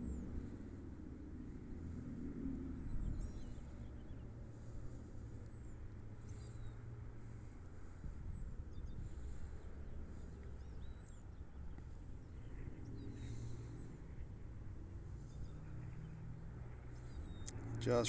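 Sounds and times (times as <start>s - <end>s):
steady low rumble: 0.0s - 18.0s
birds chirping: 2.8s - 18.0s.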